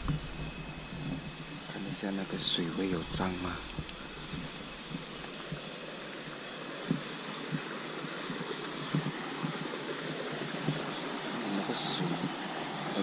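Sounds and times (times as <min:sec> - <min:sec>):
insect trilling: 0:00.0 - 0:13.0
river rushing: 0:00.0 - 0:13.0.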